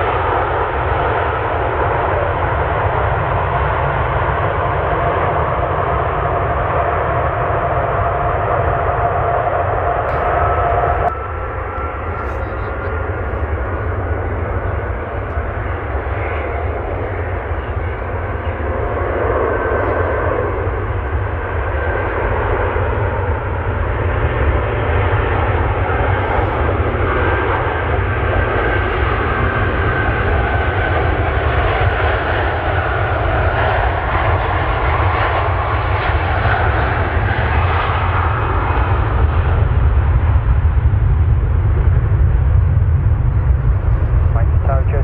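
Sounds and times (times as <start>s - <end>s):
jet engines rumbling with whine: 0.0s - 45.0s.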